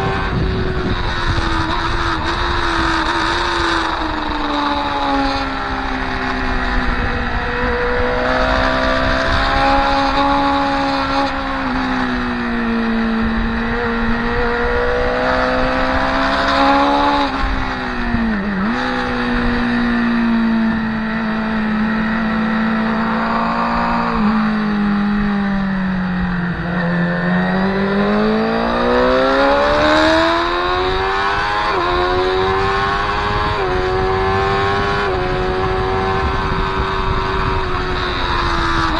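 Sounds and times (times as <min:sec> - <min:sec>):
motorcycle engine at speed: 0:00.0 - 0:38.9.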